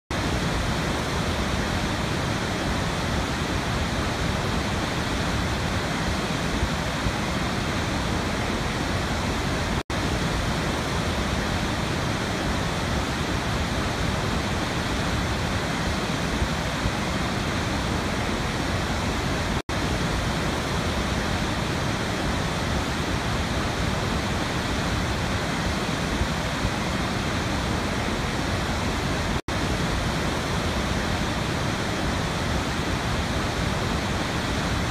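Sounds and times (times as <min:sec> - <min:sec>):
steady rushing noise: 0:00.1 - 0:34.9.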